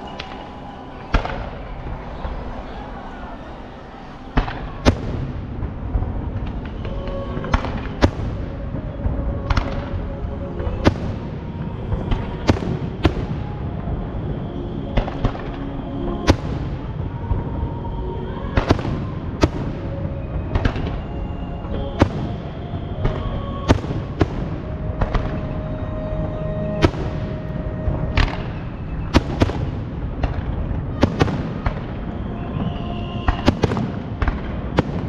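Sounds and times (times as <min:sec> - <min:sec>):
fireworks bangs: 0:00.0 - 0:03.4, 0:04.0 - 0:35.0
distant fireworks rumble: 0:00.0 - 0:35.0.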